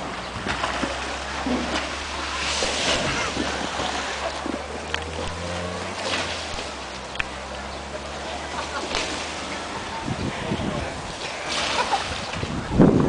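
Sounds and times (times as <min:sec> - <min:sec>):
wind rumbling on microphone: 0:00.0 - 0:07.8, 0:09.3 - 0:13.0
water rushing and splashing: 0:00.0 - 0:13.0.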